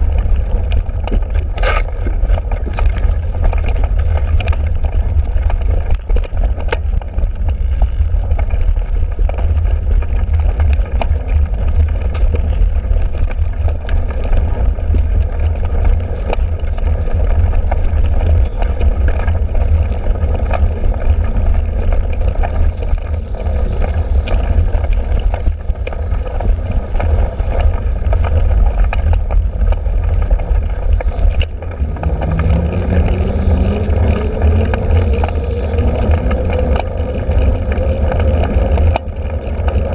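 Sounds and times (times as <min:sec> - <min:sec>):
bike clicks and rattles: 0:00.0 - 0:39.9
low rumble: 0:00.0 - 0:39.9
wind buffeting microphone: 0:00.0 - 0:39.9.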